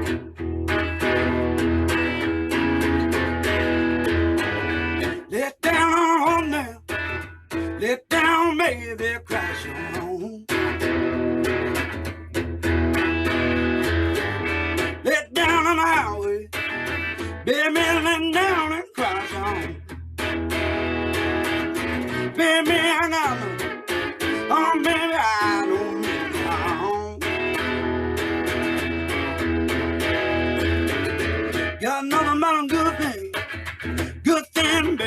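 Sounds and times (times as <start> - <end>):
blues guitar music: 0.0 - 35.0.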